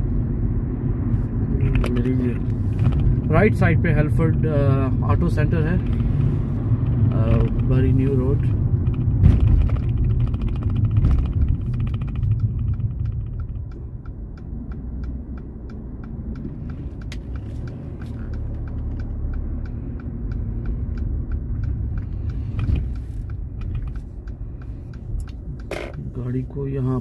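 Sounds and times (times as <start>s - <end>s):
car engine and road rumble: 0.0s - 27.0s
turn indicator ticking: 1.6s - 27.0s.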